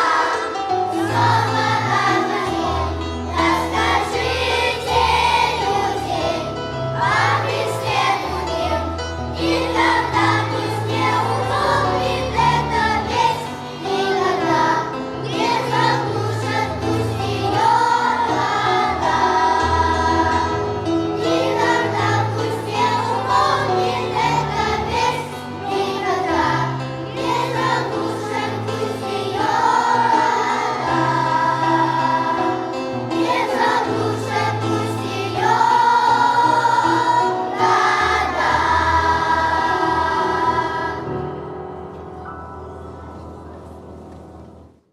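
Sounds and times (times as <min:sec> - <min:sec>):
children's choir singing: 0:00.0 - 0:41.8
instrumental accompaniment with bass: 0:00.0 - 0:44.7.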